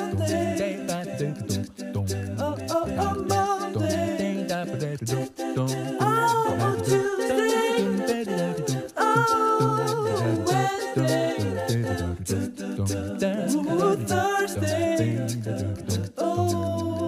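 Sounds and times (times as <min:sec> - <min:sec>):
a cappella voices singing: 0:00.0 - 0:17.0.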